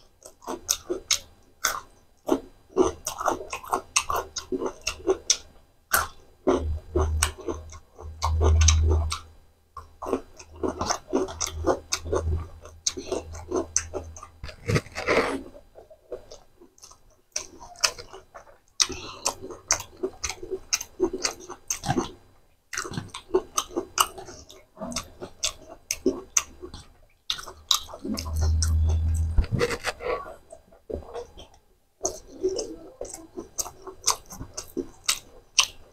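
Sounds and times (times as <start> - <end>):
man chewing and smacking: 0.0 - 35.9.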